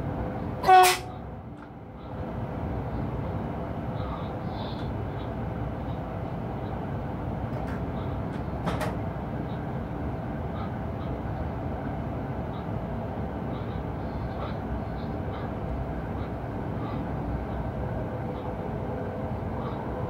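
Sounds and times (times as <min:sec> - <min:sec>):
train cab low rumble: 0:00.0 - 0:20.0.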